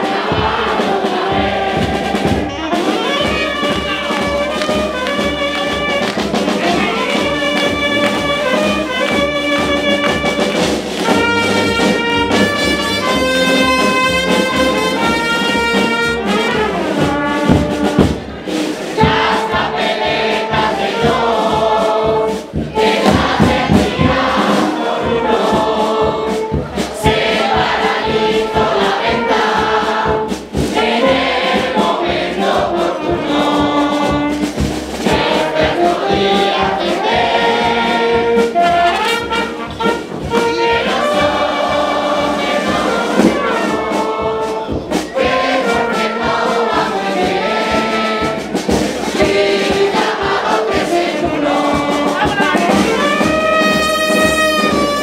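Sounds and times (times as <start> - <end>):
bass drum beating: 0.0 - 55.0
brass horns playing: 0.0 - 55.0
group of voices singing: 0.0 - 55.0.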